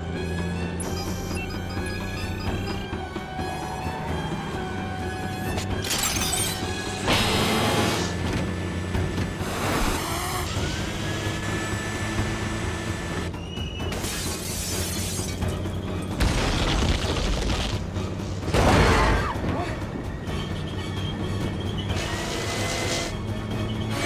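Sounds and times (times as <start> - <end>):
dramatic score music: 0.0 - 24.0.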